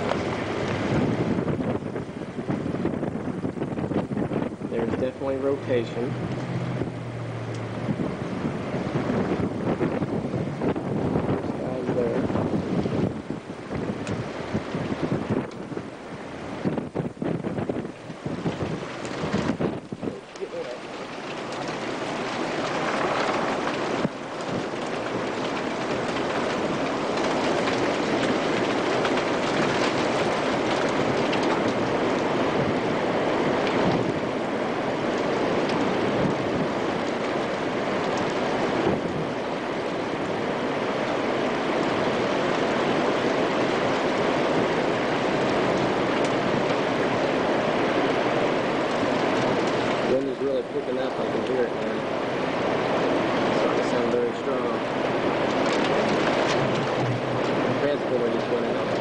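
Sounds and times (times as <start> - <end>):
rain: 0.0 - 59.0
storm wind rushing: 0.0 - 59.0.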